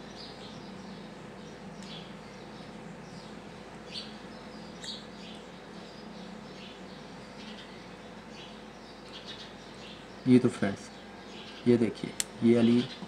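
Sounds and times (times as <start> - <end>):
faint bird chirps: 0.0 - 13.0
steady low hum: 0.0 - 13.0.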